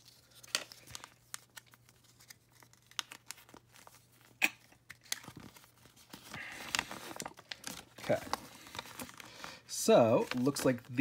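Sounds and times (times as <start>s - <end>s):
paper crinkling: 0.0s - 11.0s.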